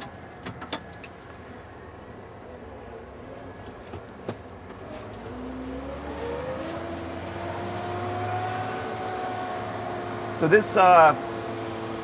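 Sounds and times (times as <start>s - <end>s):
tractor engine hum: 0.0s - 12.0s.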